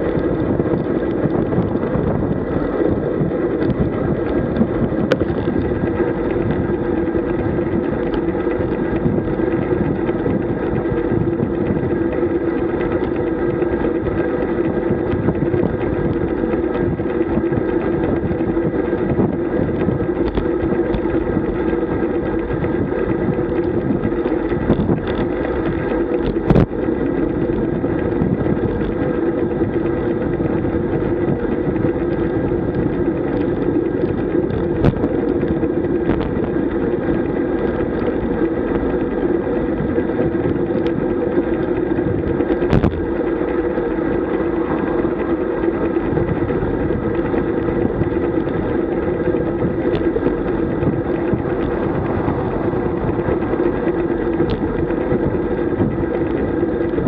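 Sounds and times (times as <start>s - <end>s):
steady hum: 0.0s - 57.0s
tyres rumbling on road: 0.0s - 57.0s
wind noise: 0.0s - 57.0s.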